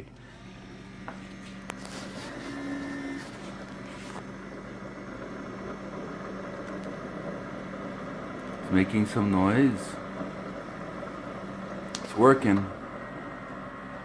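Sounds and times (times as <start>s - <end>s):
coffee maker humming and rushing: 0.0s - 14.0s.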